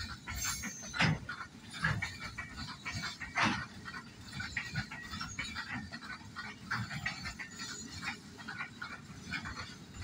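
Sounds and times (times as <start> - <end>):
freight train wheels clattering: 0.0 - 10.0.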